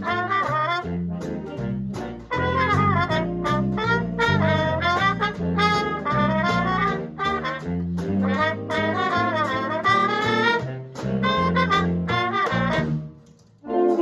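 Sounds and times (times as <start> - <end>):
bass line: 0.0 - 13.2
jazz brass swing band: 0.0 - 14.0.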